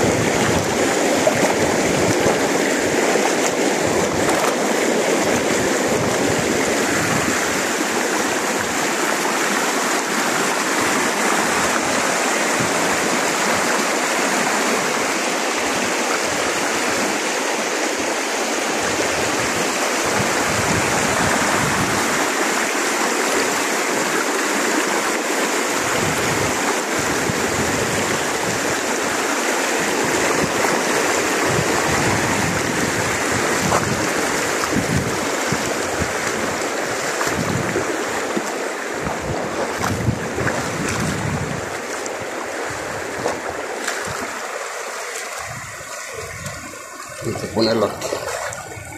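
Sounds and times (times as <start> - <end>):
river rushing over rocks: 0.0 - 48.9.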